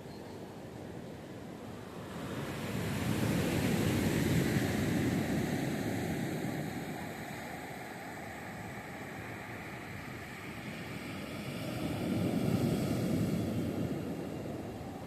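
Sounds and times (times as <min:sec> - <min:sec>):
wave breaking on beach: 0:02.1 - 0:15.0.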